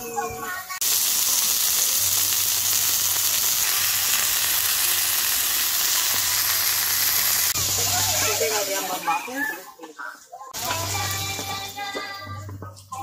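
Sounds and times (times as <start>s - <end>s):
ribs sizzling in oil: 0.1s - 9.8s, 10.6s - 12.2s.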